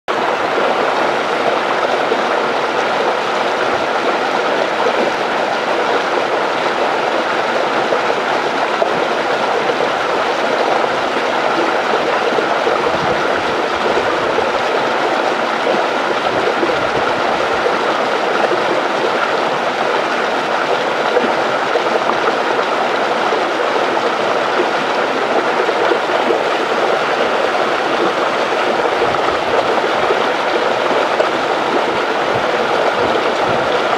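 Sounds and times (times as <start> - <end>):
water rushing over a dam: 0.1 - 33.9.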